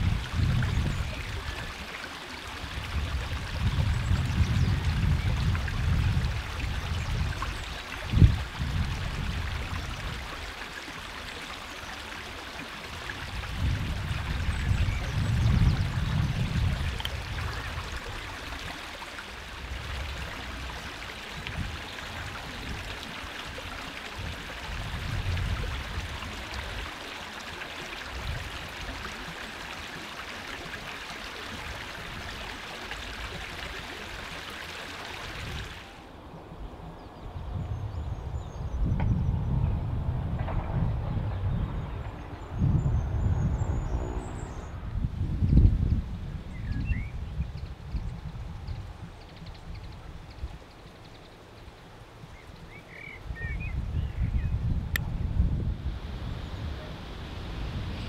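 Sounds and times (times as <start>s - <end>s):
wind buffeting microphone: 0.0s - 1.8s, 2.6s - 11.1s, 12.9s - 18.7s, 19.4s - 26.9s, 28.1s - 29.3s, 35.3s - 51.1s, 52.0s - 58.0s.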